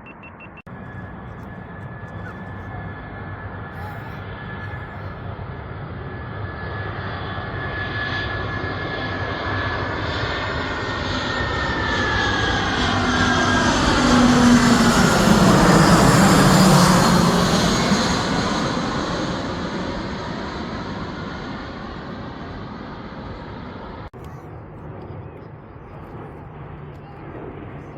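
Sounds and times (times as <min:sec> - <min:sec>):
airliner passing overhead: 0:00.0 - 0:27.9.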